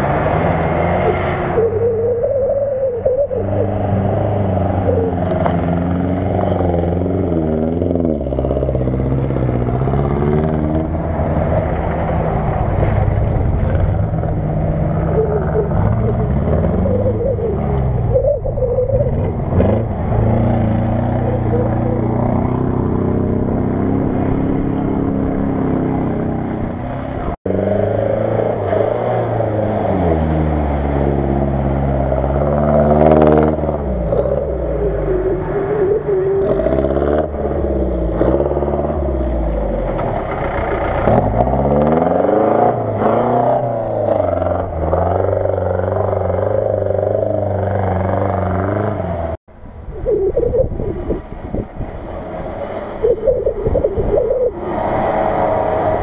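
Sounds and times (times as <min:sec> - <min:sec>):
suv engine revving in mud: 0:00.0 - 0:49.4, 0:51.5 - 0:56.0.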